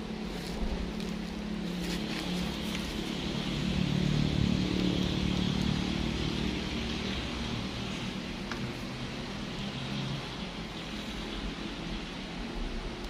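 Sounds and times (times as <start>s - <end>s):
vehicle engine passing: 0.0s - 12.7s.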